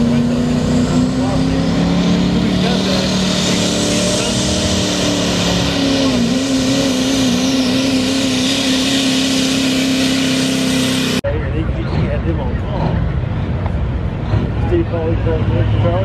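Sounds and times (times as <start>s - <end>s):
truck diesel engine at full power: 0.0s - 16.0s.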